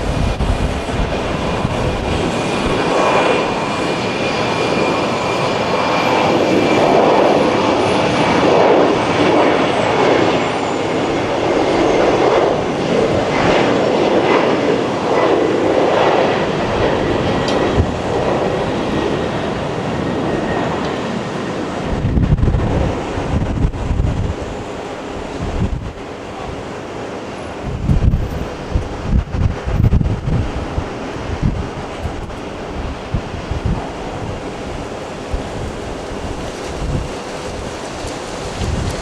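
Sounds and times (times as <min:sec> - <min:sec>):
jet engines whining at takeoff: 0:00.0 - 0:39.0.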